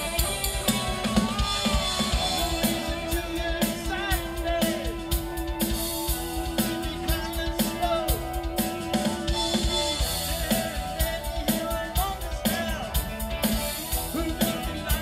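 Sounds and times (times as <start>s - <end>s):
bass guitar: 0.0s - 15.0s
bending guitar notes: 0.0s - 15.0s
drum kit beat: 0.0s - 15.0s
electric guitars: 0.0s - 15.0s.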